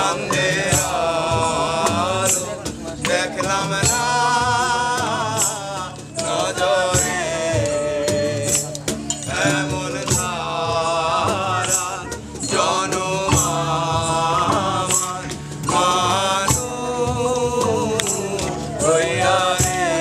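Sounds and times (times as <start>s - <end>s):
bass line: 0.0s - 20.0s
men singing: 0.0s - 20.0s
percussive beat: 0.0s - 20.0s
plucked lute: 0.0s - 20.0s.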